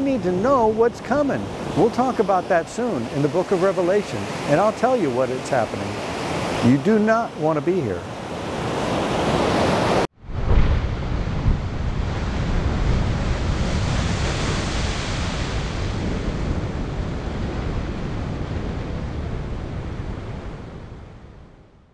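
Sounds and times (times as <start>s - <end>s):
ocean waves breaking: 0.0s - 21.4s.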